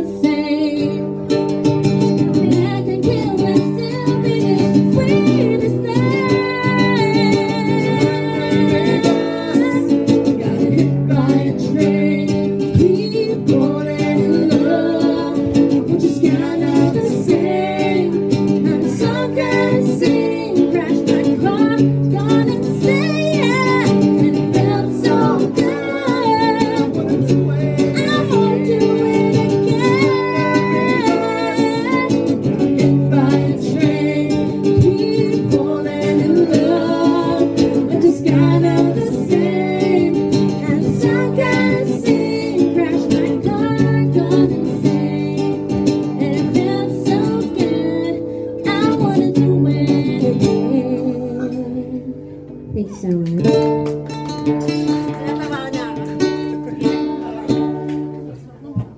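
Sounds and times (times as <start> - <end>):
woman singing: 0.0 - 53.8, 54.7 - 58.3
acoustic guitar strumming: 0.0 - 58.9.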